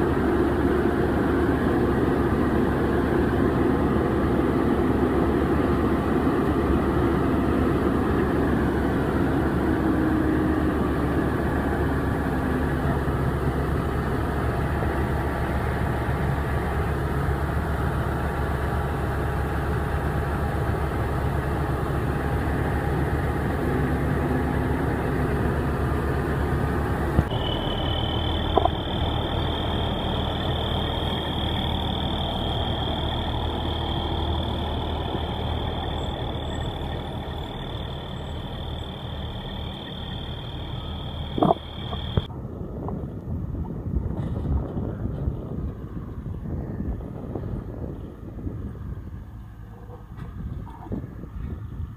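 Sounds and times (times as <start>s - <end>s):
steady high whine: 0.0s - 42.6s
combine harvester running: 0.0s - 51.9s
diesel truck idling: 0.0s - 51.9s.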